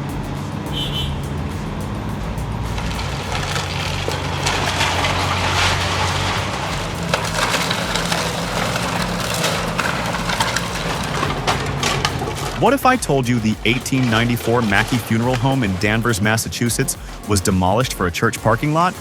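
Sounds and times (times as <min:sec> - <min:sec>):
excavator diesel engine running: 0:00.0 - 0:17.2
wood cracking and crunching: 0:02.8 - 0:18.9.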